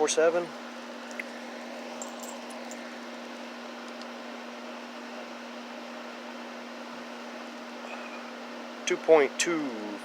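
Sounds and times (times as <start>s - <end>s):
fan hum and hiss: 0.0s - 10.0s.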